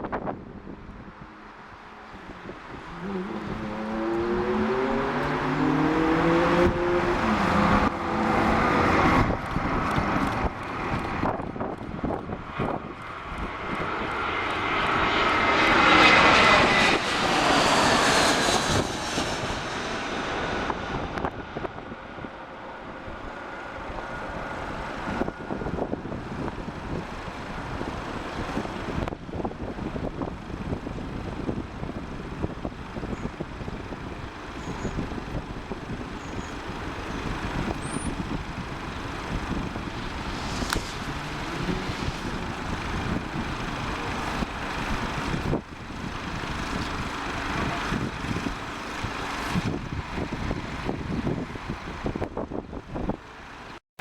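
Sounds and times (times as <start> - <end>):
jet airliner flying past: 0.1 - 53.6.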